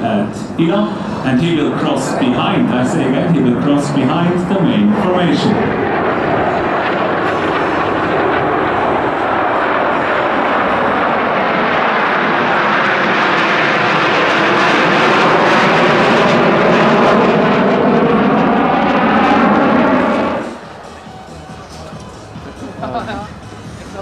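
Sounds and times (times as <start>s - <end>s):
jet fighters roaring past: 0.0s - 24.0s.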